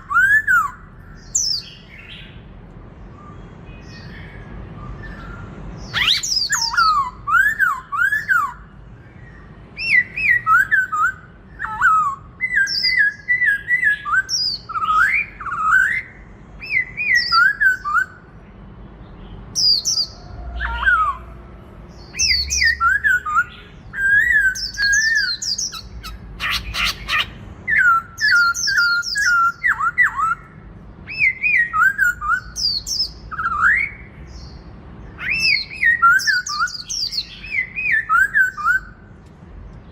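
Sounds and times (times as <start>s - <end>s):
bird singing whistled phrases: 0.0s - 2.3s, 3.1s - 8.7s, 9.8s - 18.2s, 19.6s - 21.4s, 22.0s - 34.5s, 35.2s - 39.0s.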